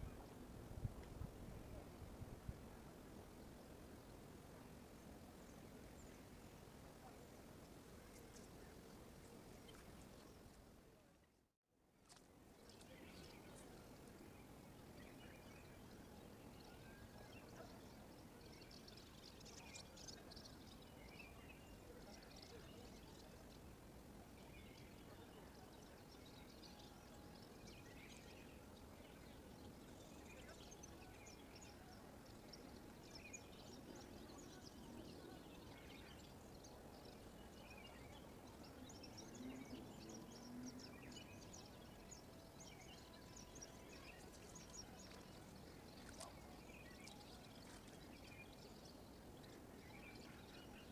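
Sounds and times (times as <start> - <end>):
faint birds chirping: 0.0 - 11.4, 12.0 - 50.9
low steady hiss: 0.0 - 50.9.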